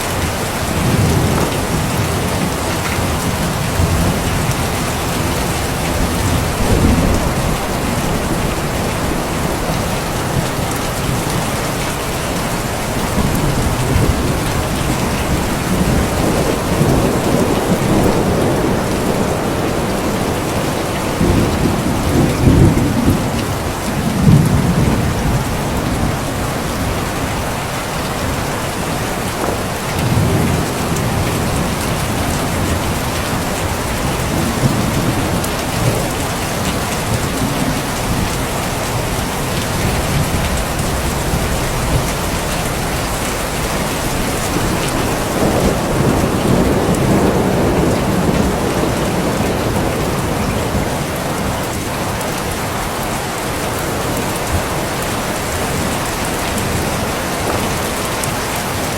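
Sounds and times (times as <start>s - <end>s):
heavy rain falling: 0.0s - 58.9s
thunder rumbling: 0.0s - 58.9s.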